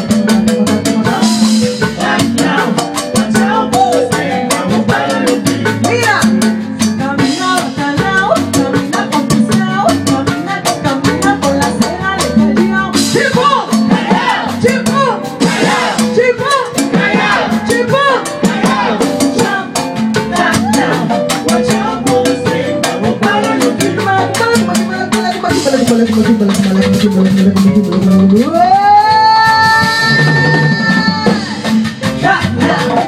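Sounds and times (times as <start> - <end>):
salsa band playing: 0.0 - 33.0.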